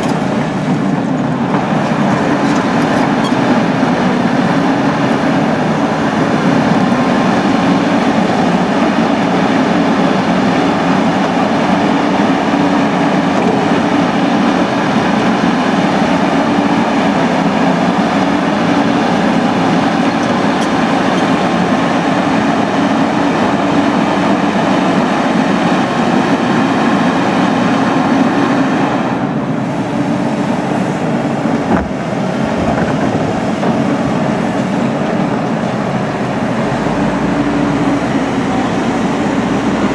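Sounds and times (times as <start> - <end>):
excavator engine and hydraulics droning: 0.0 - 39.9.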